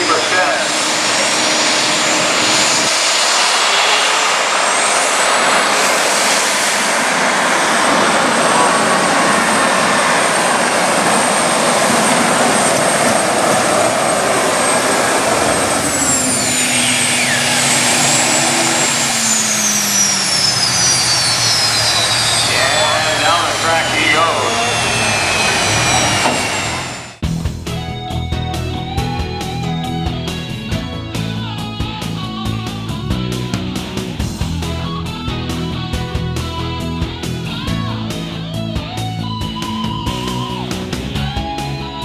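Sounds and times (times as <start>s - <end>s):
engine winding down whine: 0.0s - 42.0s
pulling tractor engine roaring: 0.0s - 42.0s.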